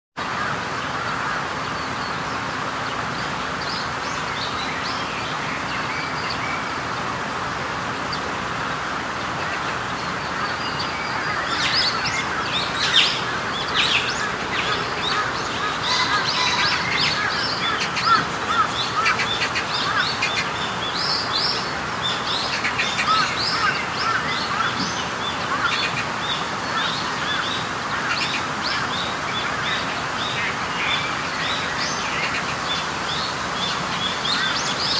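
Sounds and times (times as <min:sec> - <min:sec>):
steady background hiss: 0:00.2 - 0:34.9
small birds chirping: 0:00.4 - 0:34.9.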